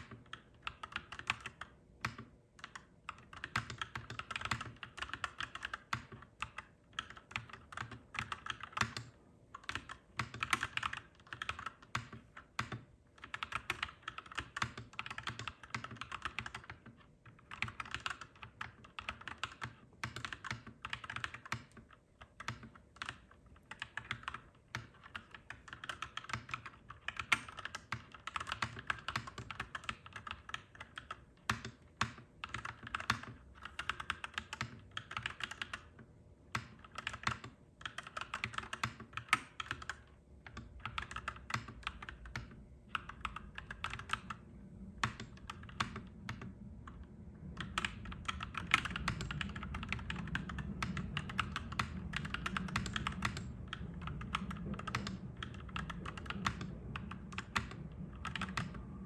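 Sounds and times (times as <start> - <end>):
mechanical keyboard typing: 0.0 - 44.4, 45.0 - 59.0
faint low hum: 0.0 - 59.0.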